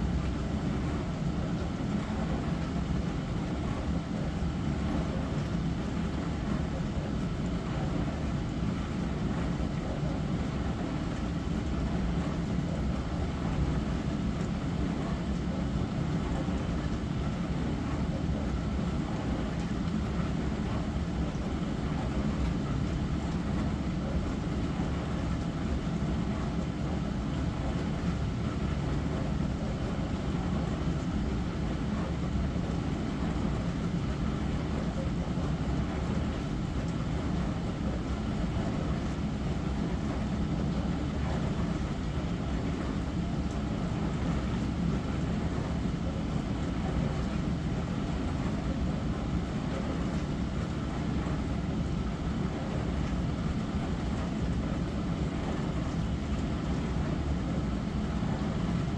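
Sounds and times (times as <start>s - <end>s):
dishwasher pump hum: 0.0s - 58.9s.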